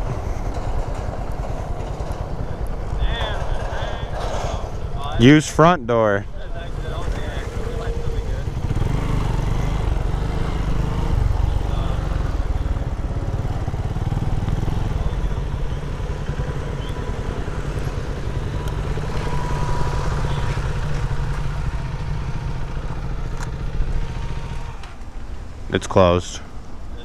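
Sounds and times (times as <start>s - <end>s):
small motorcycle engine idling: 0.0s - 5.6s, 6.2s - 25.7s.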